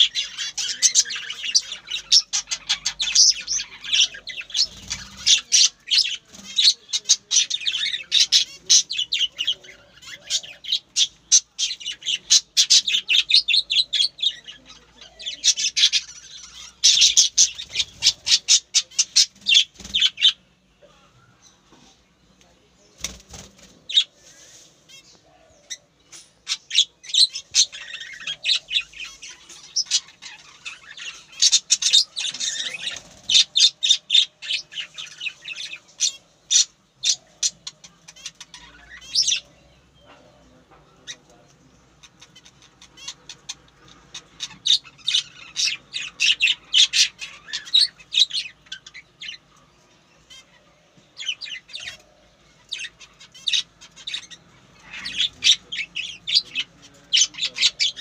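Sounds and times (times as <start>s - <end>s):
birds chirping and squawking: 0.0s - 58.0s.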